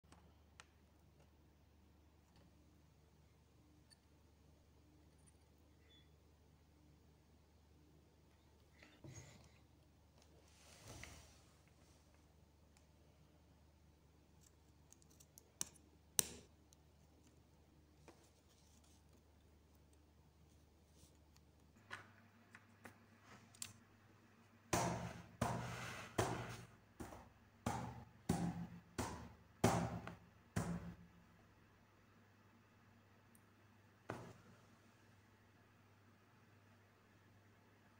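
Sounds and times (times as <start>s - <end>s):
low steady hum: 0.1s - 37.9s.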